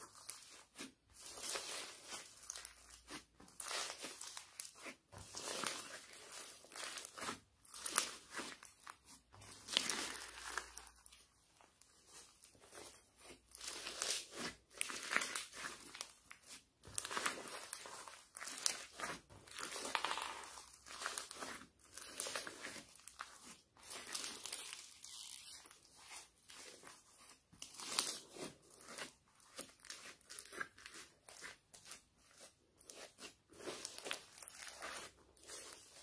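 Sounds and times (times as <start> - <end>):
crunchy slime crackles: 0.0 - 36.0.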